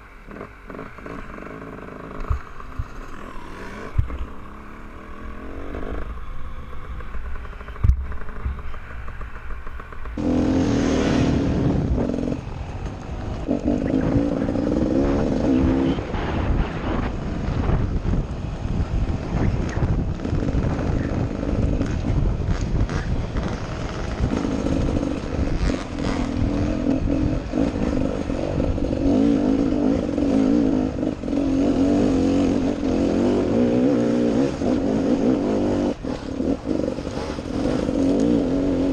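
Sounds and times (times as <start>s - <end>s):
dirt bike engine revving: 0.3s - 38.9s.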